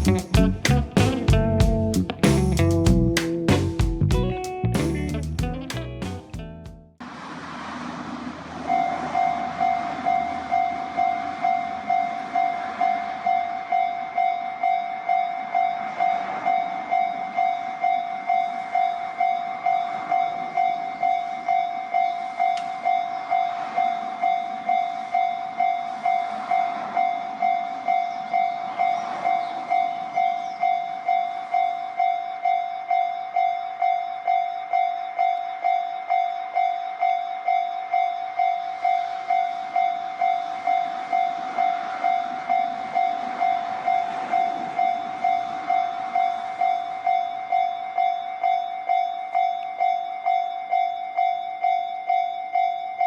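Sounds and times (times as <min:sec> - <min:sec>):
level crossing warning bell: 0:08.7 - 0:53.0.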